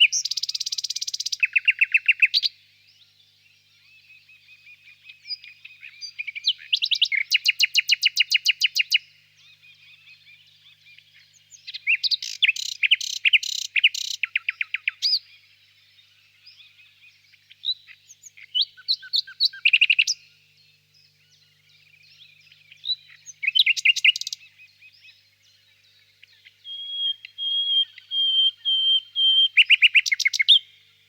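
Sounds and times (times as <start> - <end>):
nightingale singing: 0.0 - 31.0.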